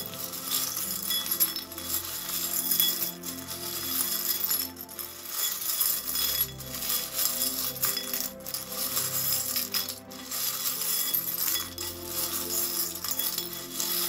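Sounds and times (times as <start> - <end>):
small charms clinking: 0.0 - 14.0
soft background music: 0.0 - 14.0.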